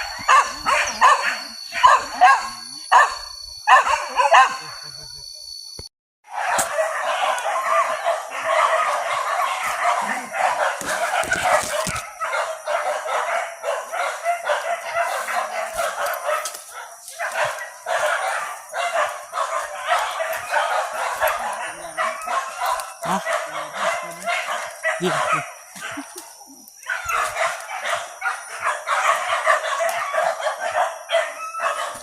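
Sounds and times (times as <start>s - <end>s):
dogs barking and yelping: 0.0s - 32.0s.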